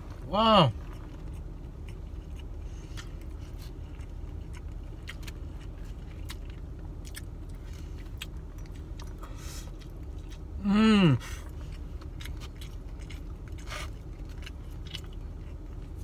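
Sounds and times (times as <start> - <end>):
steady low rumble: 0.0 - 16.0
chewing and eating: 0.1 - 16.0.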